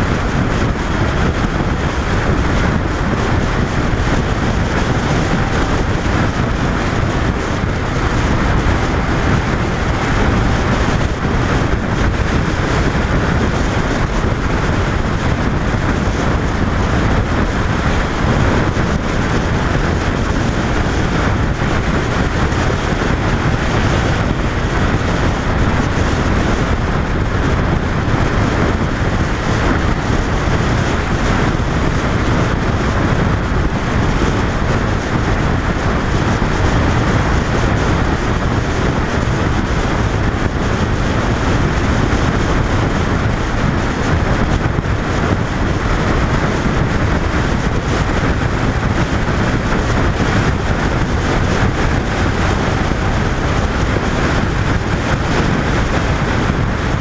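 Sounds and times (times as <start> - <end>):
motorcycle engine running: 0.0 - 57.0
wind rush over microphone: 0.0 - 57.0.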